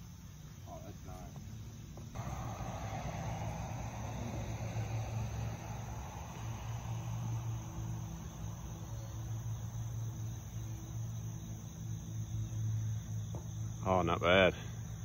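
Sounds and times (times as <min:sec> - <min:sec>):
low steady rumble: 0:00.0 - 0:13.8
crickets chirping: 0:00.0 - 0:15.0.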